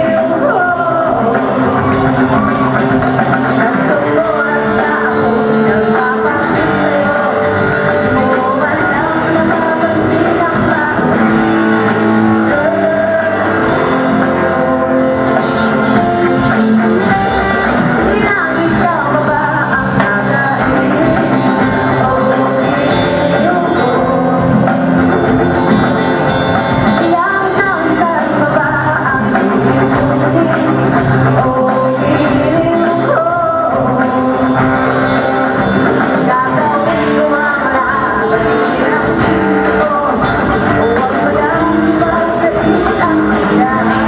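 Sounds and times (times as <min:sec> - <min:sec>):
drums: 0:00.0 - 0:44.0
electric guitar: 0:00.0 - 0:44.0
woman singing: 0:00.0 - 0:44.0.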